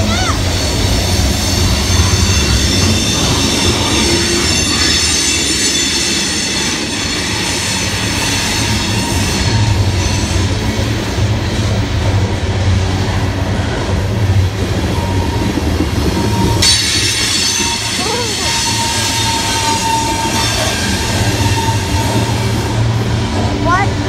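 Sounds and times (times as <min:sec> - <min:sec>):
high wheel squeal: 0:00.0 - 0:11.6, 0:14.6 - 0:23.9
steel wheels rumbling on rails: 0:00.0 - 0:24.0.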